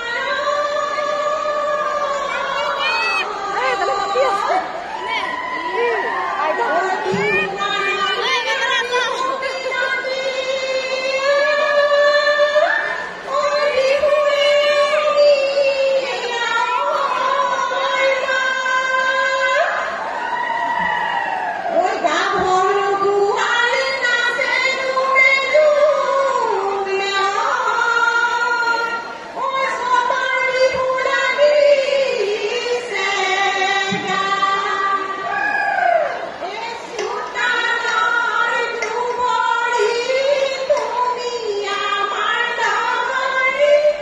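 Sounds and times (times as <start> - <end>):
woman singing long notes: 0.0 - 19.9, 21.7 - 44.0.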